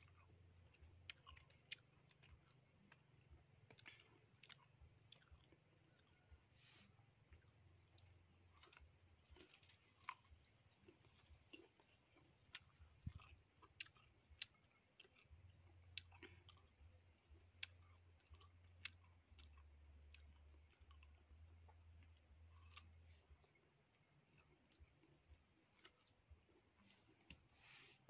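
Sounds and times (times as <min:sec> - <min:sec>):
faint low rumble: 0:00.0 - 0:28.0.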